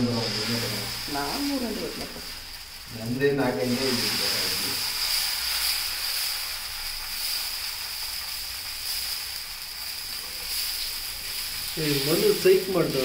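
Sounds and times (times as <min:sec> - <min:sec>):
batter sizzling on a griddle: 0:00.0 - 0:13.0.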